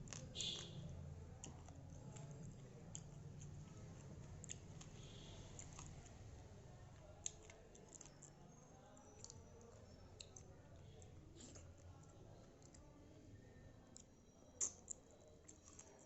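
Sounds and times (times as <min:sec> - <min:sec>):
faint low hum: 0:00.0 - 0:16.0
soft chewing: 0:00.0 - 0:16.0.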